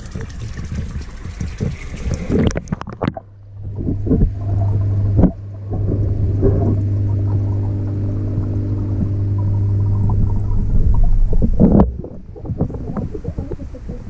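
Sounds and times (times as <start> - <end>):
knocks underwater: 0.0 - 13.6
low underwater hum: 0.0 - 14.0
water sloshing and splashing: 0.0 - 14.0.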